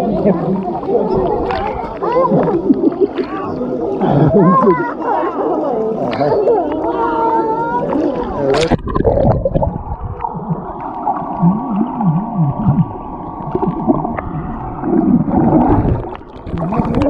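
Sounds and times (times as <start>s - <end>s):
muffled swimmers' voices: 0.0s - 17.0s
muffled underwater water noise: 0.0s - 17.0s.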